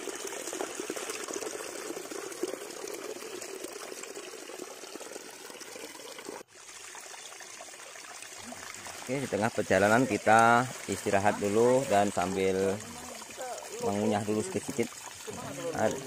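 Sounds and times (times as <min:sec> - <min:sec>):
stream water trickling over rock: 0:00.0 - 0:16.0.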